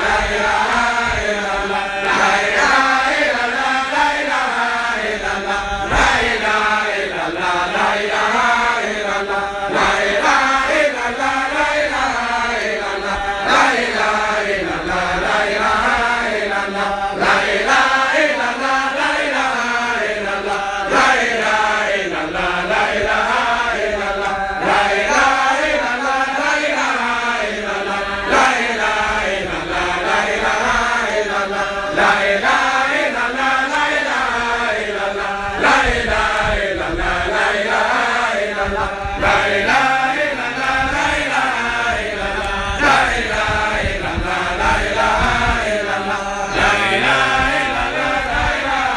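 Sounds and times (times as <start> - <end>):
men chanting together: 0.0 - 48.9.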